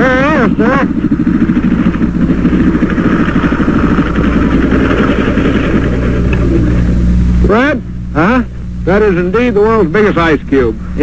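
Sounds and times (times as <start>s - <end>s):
motor sled engine running: 0.0s - 11.0s.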